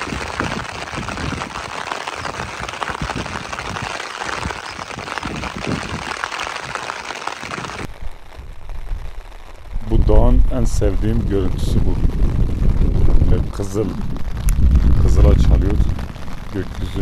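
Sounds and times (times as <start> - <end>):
wind and rain rushing: 0.0 - 17.0
wind buffeting microphone: 0.0 - 17.0.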